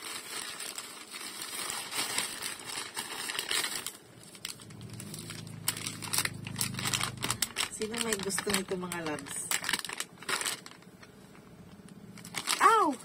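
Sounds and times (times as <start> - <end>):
low steady hum: 0.0 - 13.0
plastic pouches crinkling: 0.0 - 13.0.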